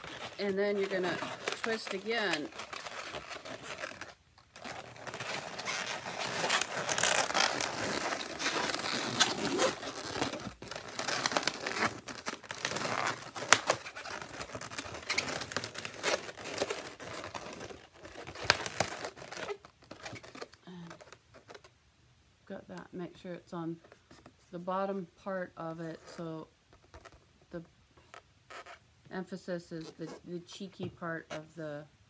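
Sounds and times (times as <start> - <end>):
balloons squeaking and rubbing: 0.0 - 21.7, 25.8 - 28.8, 29.8 - 31.6.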